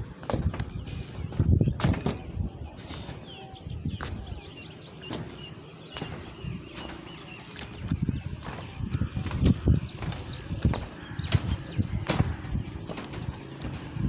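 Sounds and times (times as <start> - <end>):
knocks and thuds: 0.0 - 14.0
small birds chirping: 0.0 - 14.0.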